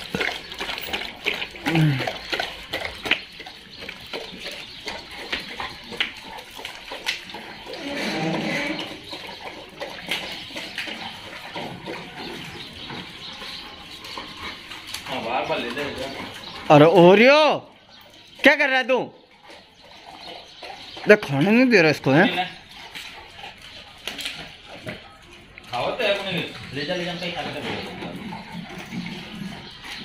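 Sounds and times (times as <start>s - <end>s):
dogs crunching food: 0.0s - 30.0s.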